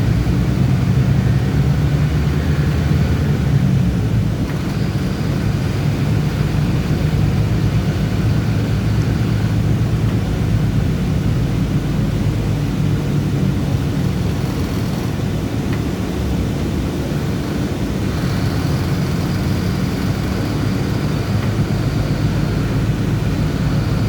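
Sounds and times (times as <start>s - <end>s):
bus engine droning rumble: 0.0s - 24.0s.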